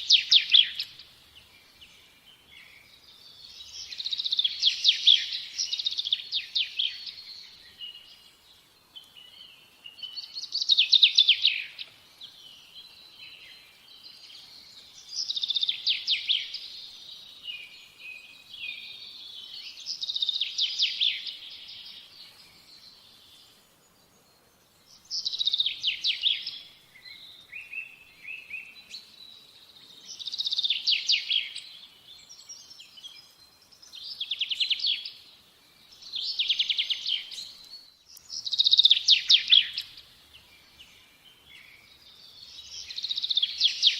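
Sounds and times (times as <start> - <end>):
faint bird chirps: 0.0 - 43.9
songbird trilled song: 0.0 - 43.9.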